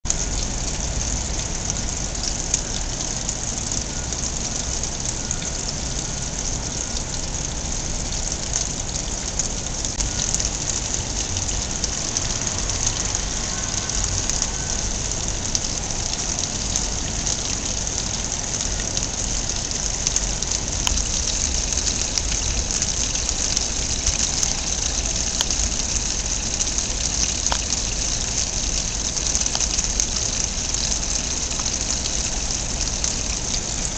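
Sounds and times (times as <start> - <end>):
water pouring from fountain spout: 0.1 - 33.9.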